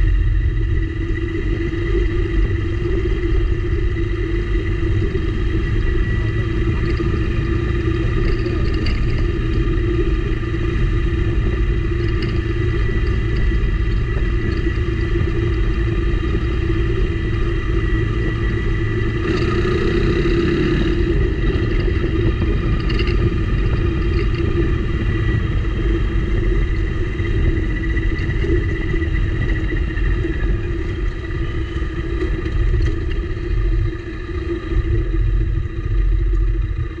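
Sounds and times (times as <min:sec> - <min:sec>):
low rumble on rough road: 0:00.0 - 0:37.0
motorcycle engine running: 0:00.0 - 0:37.0.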